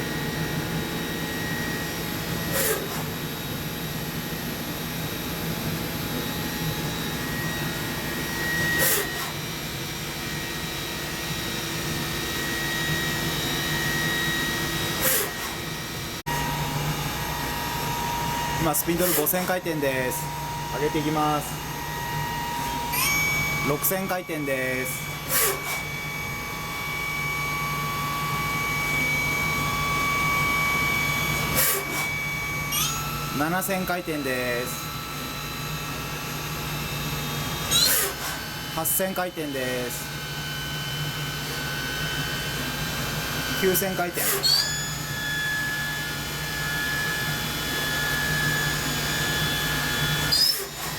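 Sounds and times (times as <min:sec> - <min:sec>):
machine spindle humming and whining: 0:00.0 - 0:50.9.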